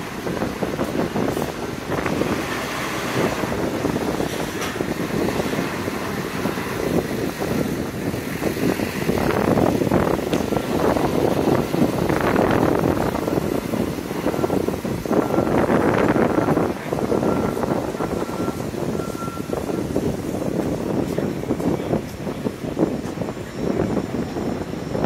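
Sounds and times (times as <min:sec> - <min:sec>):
road traffic passing: 0:00.0 - 0:25.0
wind on microphone: 0:00.0 - 0:25.0.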